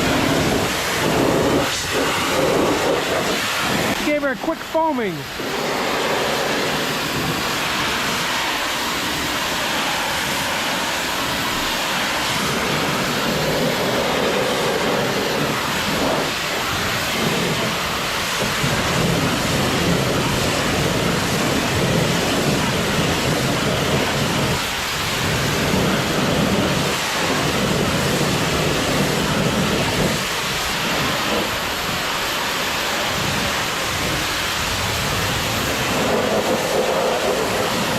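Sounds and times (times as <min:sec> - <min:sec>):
pressure washer spraying water: 0:00.0 - 0:37.9.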